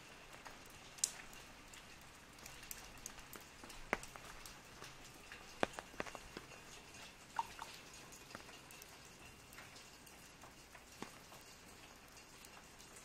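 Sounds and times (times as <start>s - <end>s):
rain hiss: 0.0s - 13.0s
raindrops ticking on umbrella: 0.0s - 13.0s.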